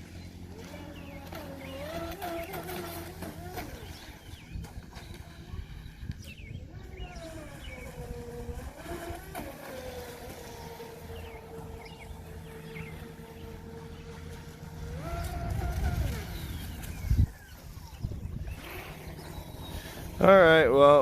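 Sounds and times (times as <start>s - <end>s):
rc boat motor whine: 0.0s - 21.0s.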